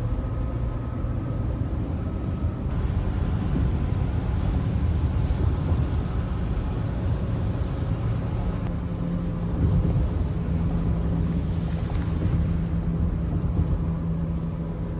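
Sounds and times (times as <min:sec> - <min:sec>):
constant low hum: 0:00.0 - 0:14.9
vehicle road noise rumble: 0:00.0 - 0:14.9.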